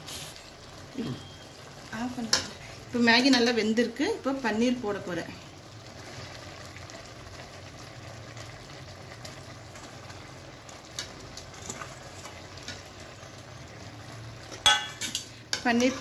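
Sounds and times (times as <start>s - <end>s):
noodles simmering hiss: 0.0s - 16.0s.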